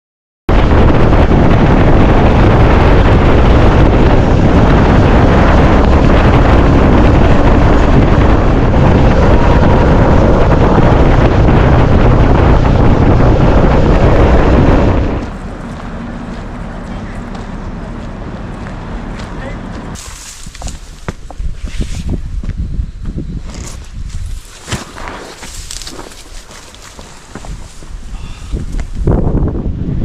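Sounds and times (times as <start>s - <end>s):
wind buffeting microphone: 0.5s - 30.0s.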